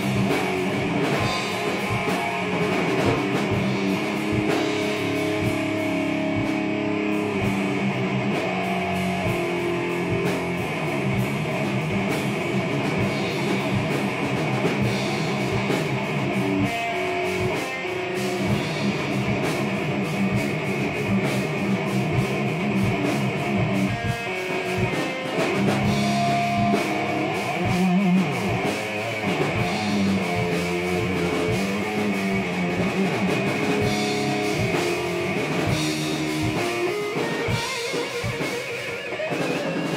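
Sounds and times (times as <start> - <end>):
drum kit: 0.0 - 39.9
guitar playing: 0.0 - 39.9.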